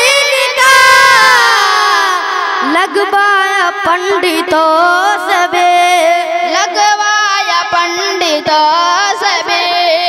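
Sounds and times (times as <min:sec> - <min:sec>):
boy singing into a microphone: 0:00.0 - 0:10.0.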